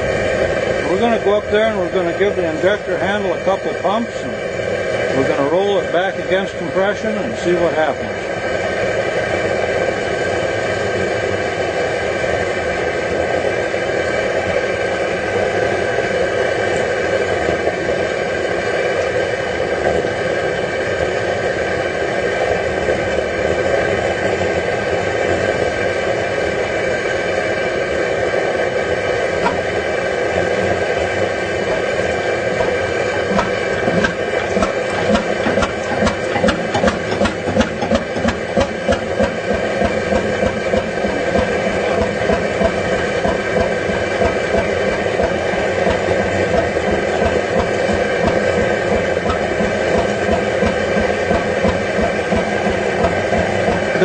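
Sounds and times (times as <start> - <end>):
burner hissing roar: 0.0 - 54.0
engine exhaust puffs: 0.0 - 54.0.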